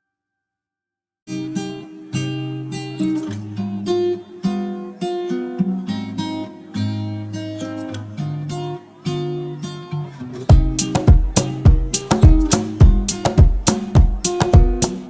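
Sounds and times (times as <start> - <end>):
acoustic guitar playing: 1.3 - 15.0.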